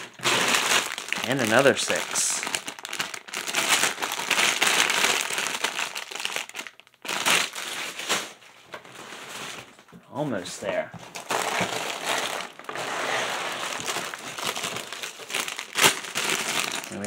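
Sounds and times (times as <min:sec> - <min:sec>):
plastic bag crinkling: 0:00.0 - 0:09.9, 0:11.0 - 0:17.0.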